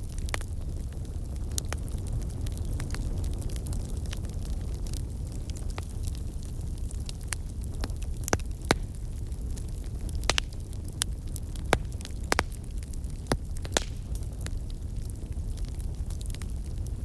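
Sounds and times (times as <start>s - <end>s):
fire crackling pops: 0.0s - 17.0s
fire low rumble: 0.0s - 17.0s.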